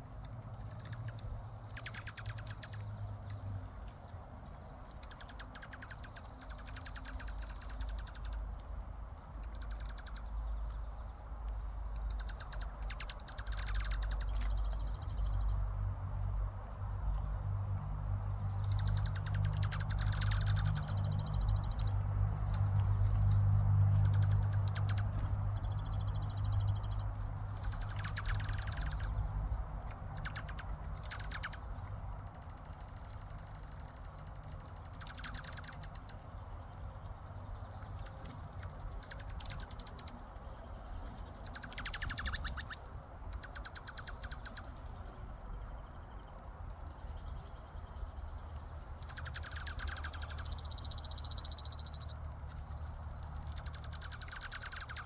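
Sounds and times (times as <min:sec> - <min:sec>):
birds trilling: 0:00.0 - 0:55.0.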